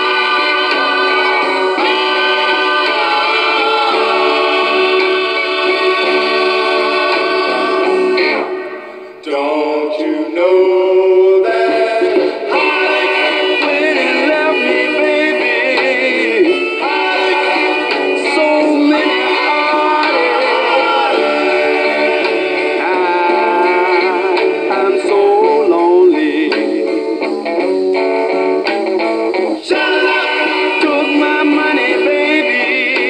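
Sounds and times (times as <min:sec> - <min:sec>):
soul record singing over band: 0:00.0 - 0:33.0.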